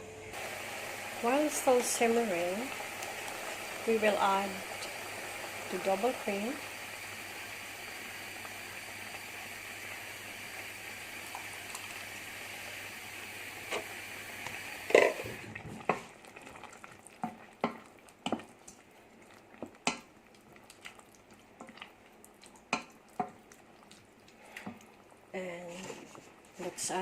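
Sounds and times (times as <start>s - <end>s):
sauce simmering with sizzling hiss: 0.3s - 27.0s.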